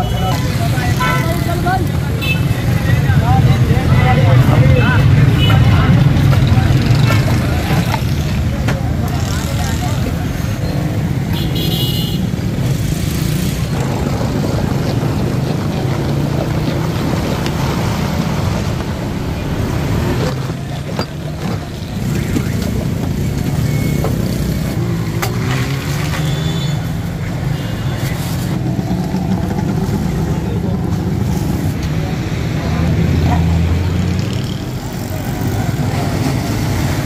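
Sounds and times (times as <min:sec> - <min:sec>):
traffic engine hum: 0:00.0 - 0:37.0.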